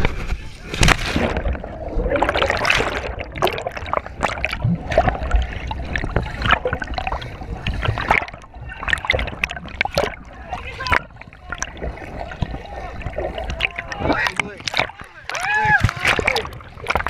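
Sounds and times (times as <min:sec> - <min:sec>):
underwater clicks and knocks: 0:00.0 - 0:17.0
underwater gurgling and sloshing: 0:00.0 - 0:17.0.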